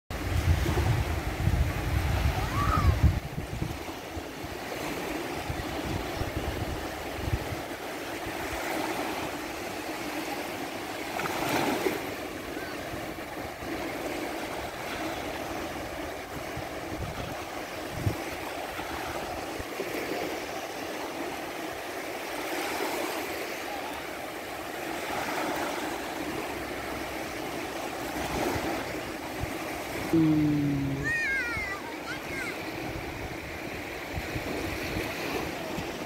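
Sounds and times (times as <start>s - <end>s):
waves washing up sandy shore: 0.2s - 36.0s.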